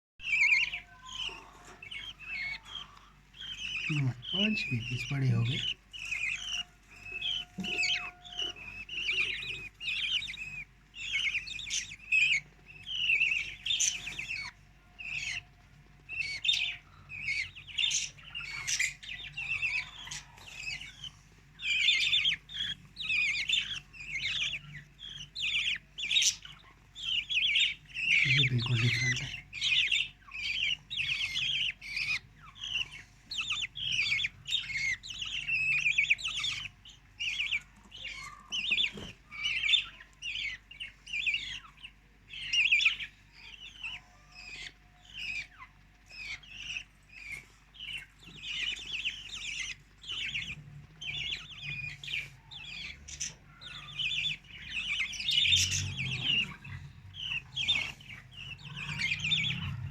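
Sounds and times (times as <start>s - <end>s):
budgerigars chirping: 0.2s - 59.9s.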